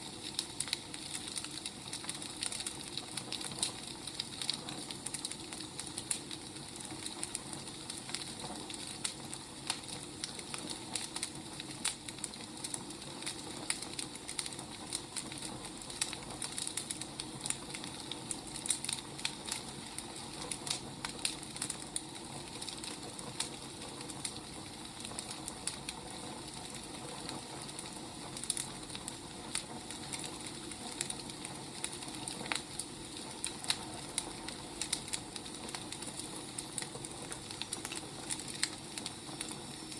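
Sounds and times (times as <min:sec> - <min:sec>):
fire crackling and popping: 0:00.0 - 0:39.9
firewood burning hiss: 0:00.0 - 0:39.9.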